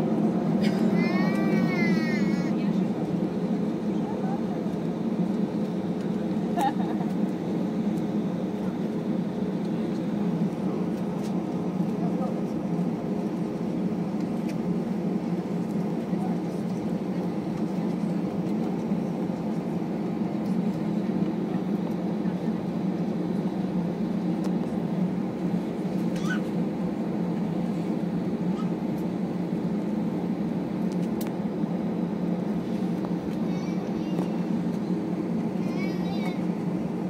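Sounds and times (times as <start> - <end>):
airplane cabin hum and rumble: 0.0 - 37.0.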